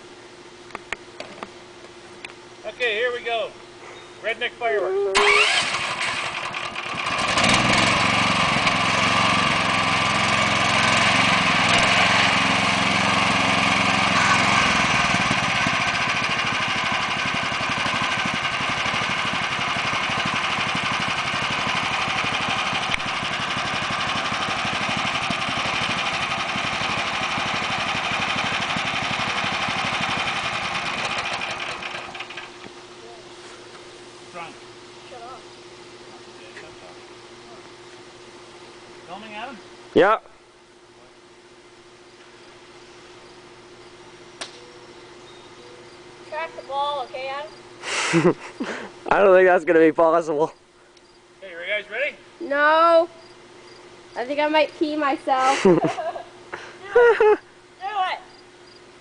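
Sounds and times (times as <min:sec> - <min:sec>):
garden tractor engine running: 0:02.6 - 0:40.0, 0:43.5 - 0:50.5, 0:51.4 - 0:58.1.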